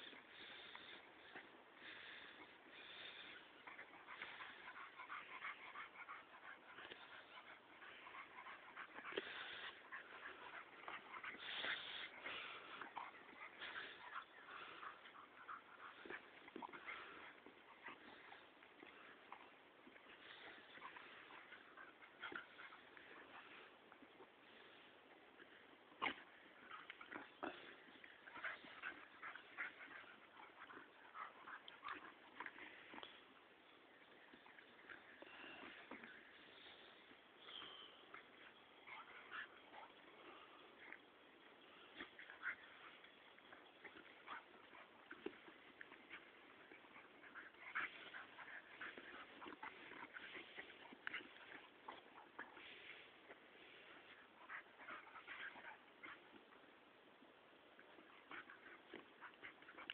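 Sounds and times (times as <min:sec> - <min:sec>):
dogs play growling: 0:00.0 - 0:59.9.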